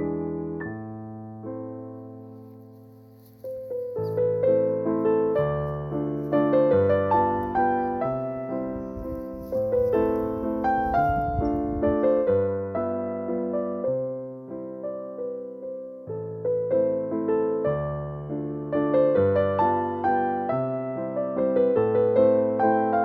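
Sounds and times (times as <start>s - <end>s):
gentle piano piece: 0.0s - 23.0s.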